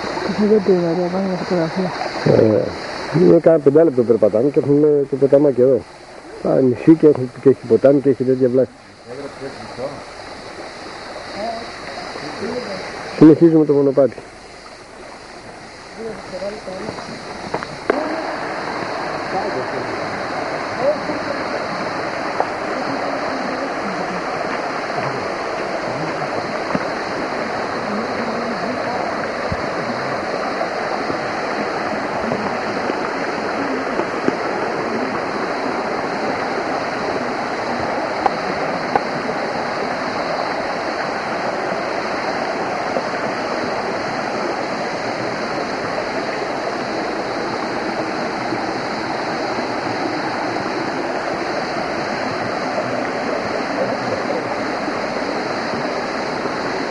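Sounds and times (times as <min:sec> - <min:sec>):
stream rushing over stones: 0:00.0 - 0:56.9.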